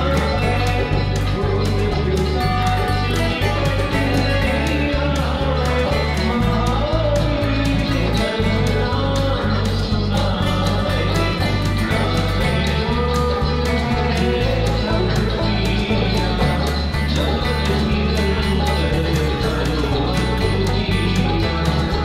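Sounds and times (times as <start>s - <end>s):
plucked guitar: 0.0s - 22.0s
regular beat: 0.0s - 22.0s
repeating bass line: 0.0s - 22.0s.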